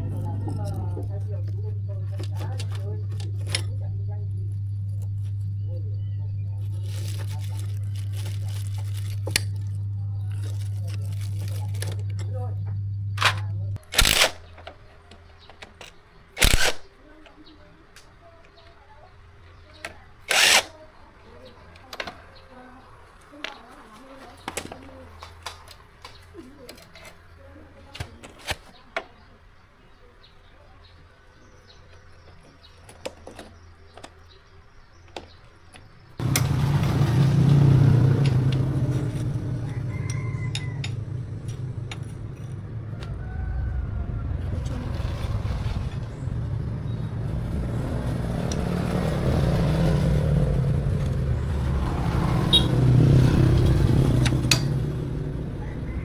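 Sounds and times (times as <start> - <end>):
vehicle engine running: 0.0 - 27.9, 30.5 - 56.0.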